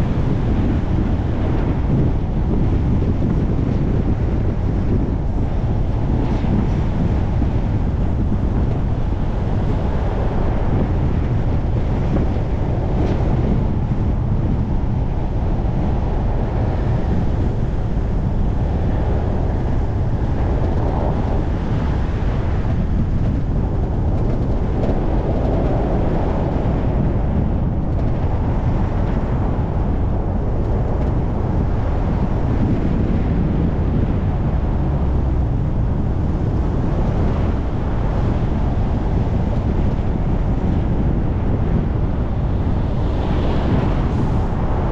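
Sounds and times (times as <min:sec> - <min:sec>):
car road and wind noise: 0:00.0 - 0:44.9
wind buffeting microphone: 0:00.0 - 0:44.9.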